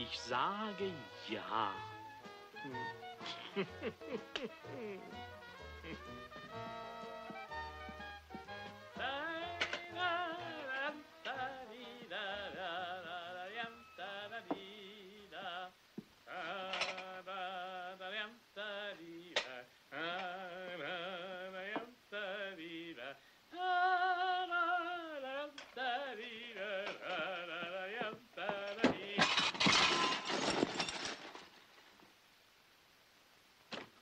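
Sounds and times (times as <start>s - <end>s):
person singing with vibrato: 0.0s - 7.6s, 8.4s - 30.7s.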